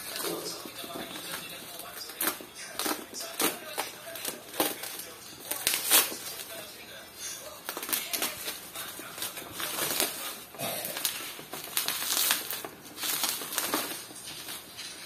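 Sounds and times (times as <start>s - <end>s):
plastic wrap rustling and crinkling: 0.0s - 15.0s.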